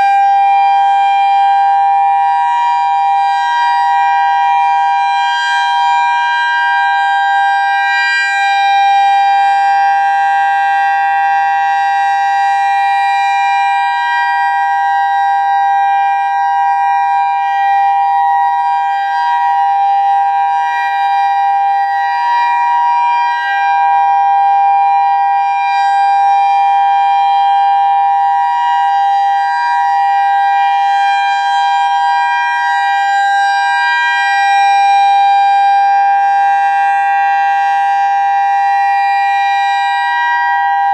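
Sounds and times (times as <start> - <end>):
electronic warning siren: 0.0 - 40.9.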